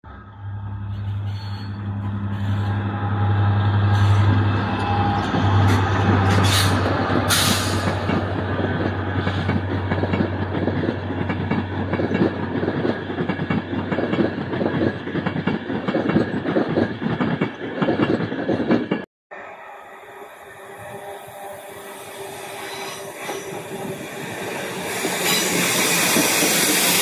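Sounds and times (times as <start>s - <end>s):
passing train rumble: 0.1s - 27.0s.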